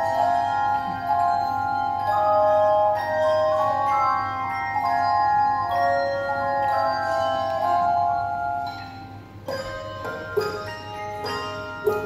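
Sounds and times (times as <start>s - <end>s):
handbell choir ringing: 0.0s - 12.0s.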